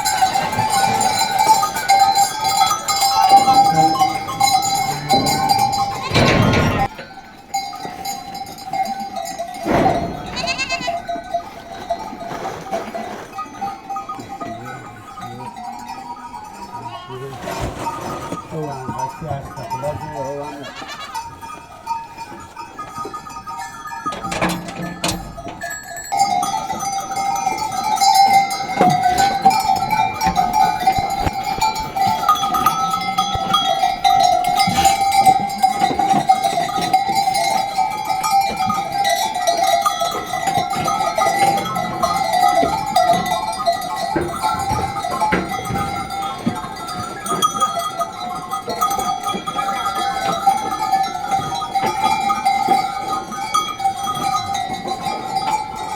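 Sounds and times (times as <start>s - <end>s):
sheep bells clanking: 0.0s - 55.9s.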